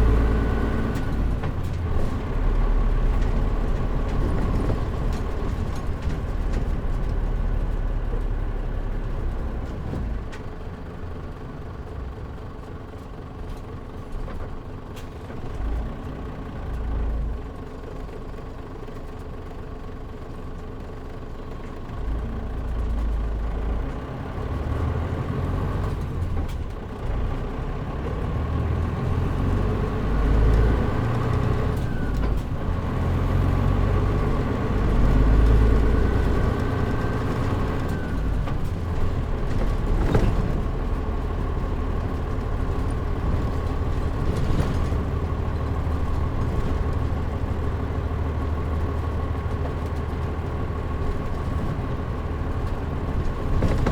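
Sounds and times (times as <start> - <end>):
bus engine whine: 0.0 - 53.9.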